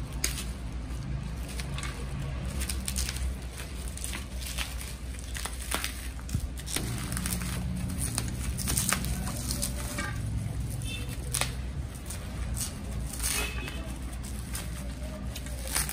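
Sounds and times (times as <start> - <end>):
bubble wrap crinkling: 0.0 - 15.9.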